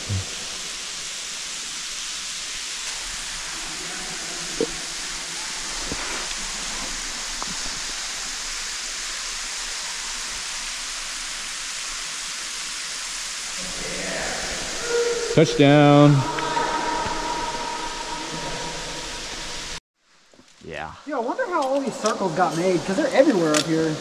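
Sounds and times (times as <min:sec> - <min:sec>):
water falling into cave pit: 0:00.0 - 0:19.8.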